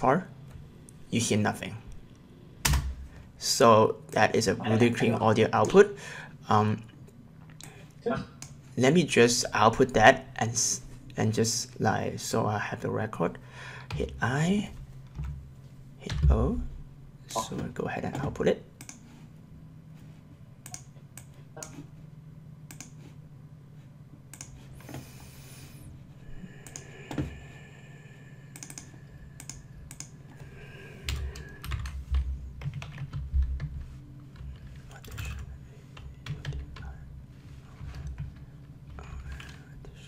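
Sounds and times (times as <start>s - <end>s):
faint low hum: 0.0s - 40.0s.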